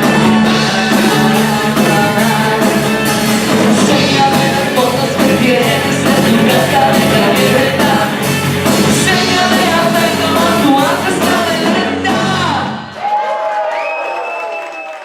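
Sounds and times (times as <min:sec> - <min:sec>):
person singing: 0:00.0 - 0:13.0
rock band playing live: 0:00.0 - 0:13.0.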